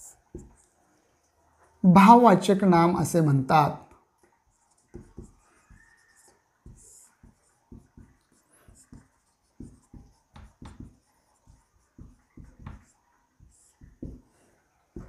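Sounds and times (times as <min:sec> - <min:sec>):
marker writing on whiteboard: 0:00.0 - 0:02.3, 0:03.9 - 0:15.0.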